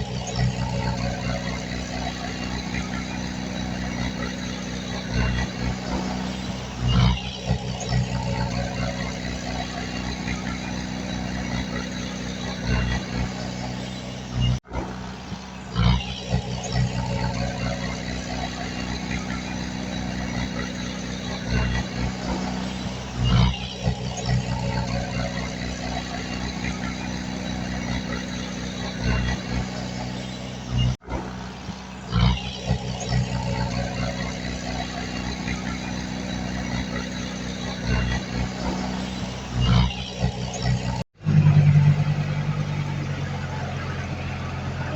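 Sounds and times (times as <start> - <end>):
diesel engine of heavy machinery: 0.0 - 44.9.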